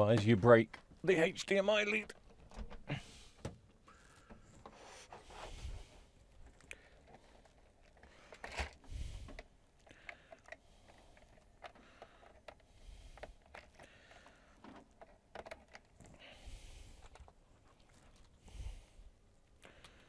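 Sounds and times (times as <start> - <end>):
faint clicks and rustles of hands: 0.0 - 20.0.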